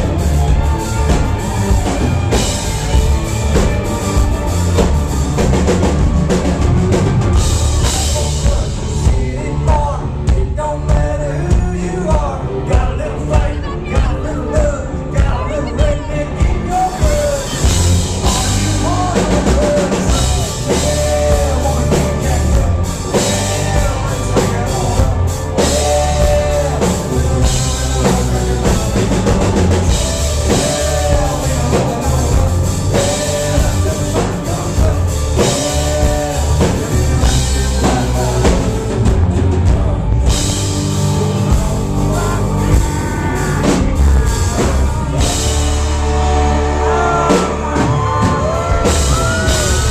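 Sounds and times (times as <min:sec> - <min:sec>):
drum kit: 0:00.0 - 0:49.9
live country-rock band playing: 0:00.0 - 0:49.9.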